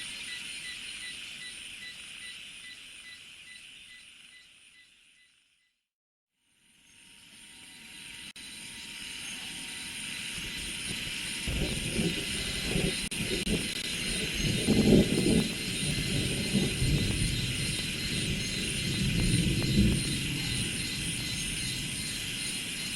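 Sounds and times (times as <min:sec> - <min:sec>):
high insect chorus: 0:00.0 - 0:05.3, 0:06.6 - 0:22.9
faint pulsing chirp: 0:00.0 - 0:05.8, 0:06.7 - 0:22.9.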